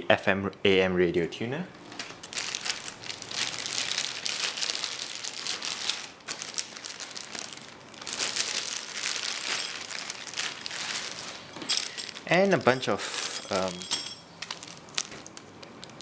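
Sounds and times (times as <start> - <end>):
packaging crinkling: 1.8 - 16.0.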